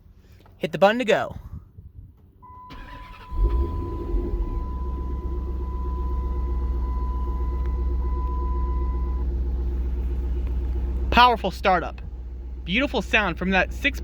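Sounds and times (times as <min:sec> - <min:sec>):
car engine starting and idling: 0:02.4 - 0:14.0.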